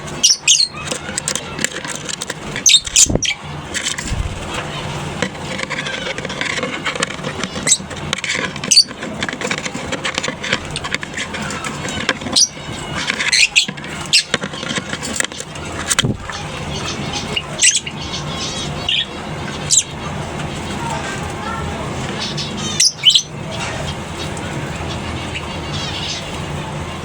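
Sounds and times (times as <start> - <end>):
birds chattering: 0.0 - 27.0.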